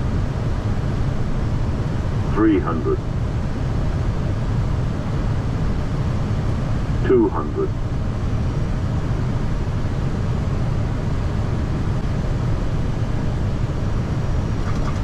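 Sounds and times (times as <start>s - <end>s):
aircraft engines rumbling: 0.0s - 15.0s
airflow rushing in cockpit: 0.1s - 15.0s.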